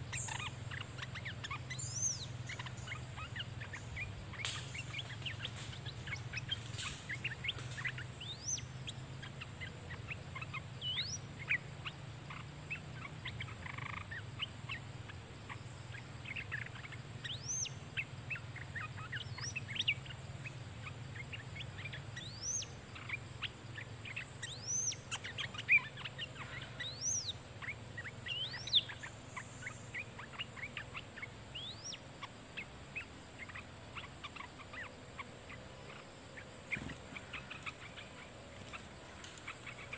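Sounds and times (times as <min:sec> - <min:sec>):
bulbuls calling: 0:00.0 - 0:39.9.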